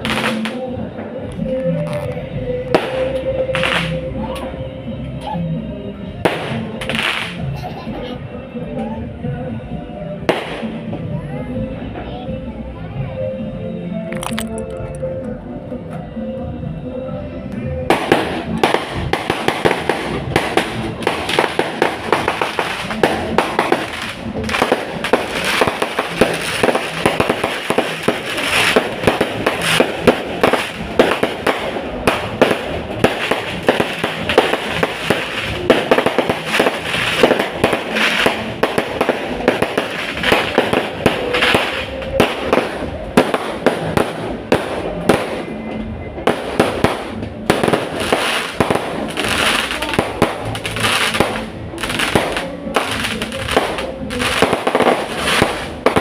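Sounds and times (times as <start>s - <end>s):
fireworks bangs and crackling: 0.0s - 4.4s, 6.0s - 7.8s, 10.2s - 12.0s, 17.6s - 56.0s.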